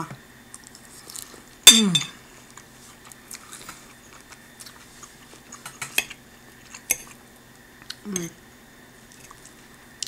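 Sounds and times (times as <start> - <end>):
soft chewing: 0.5 - 1.6, 2.2 - 10.0.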